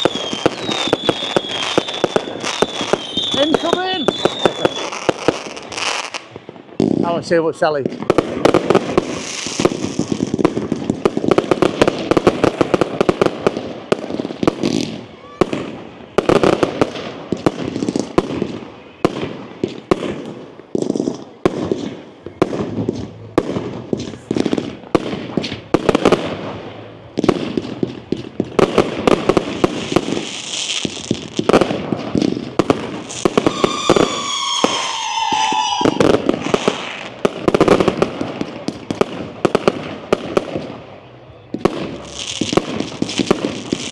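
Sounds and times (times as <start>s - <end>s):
fireworks banging and crackling: 0.0s - 43.9s.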